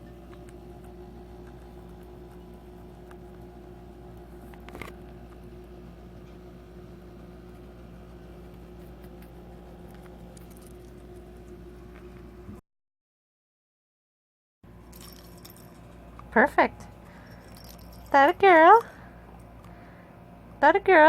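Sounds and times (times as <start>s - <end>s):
electrical hum: 0.0s - 12.6s, 14.7s - 21.0s.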